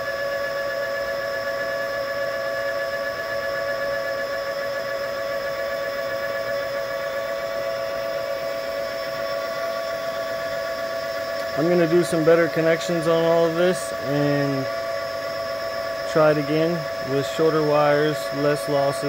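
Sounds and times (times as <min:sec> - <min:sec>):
motor generator whining and humming: 0:00.0 - 0:19.0.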